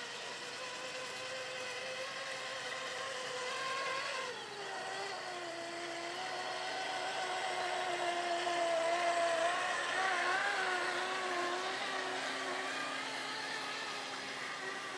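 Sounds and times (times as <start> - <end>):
model truck motor whining: 0.0 - 14.9.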